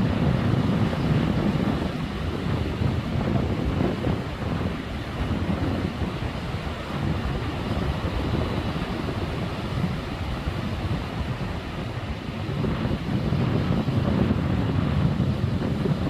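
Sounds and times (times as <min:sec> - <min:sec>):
sea waves washing on shore: 0:00.0 - 0:16.0
wind rumbling on microphone: 0:00.0 - 0:16.0.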